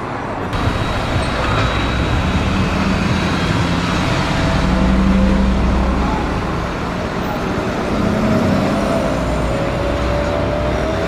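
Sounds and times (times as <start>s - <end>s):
road noise: 0.0s - 11.0s
car engine low rumble: 0.6s - 11.0s.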